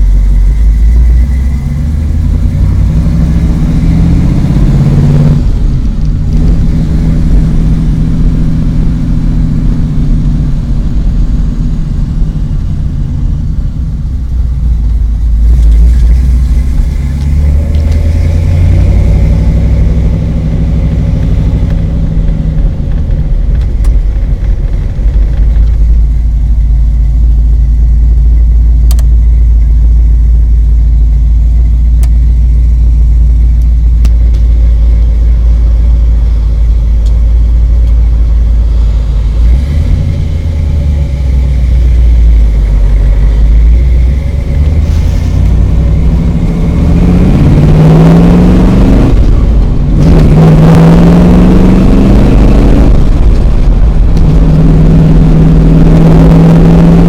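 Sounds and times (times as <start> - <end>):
car engine drone from inside: 0.0 - 57.0.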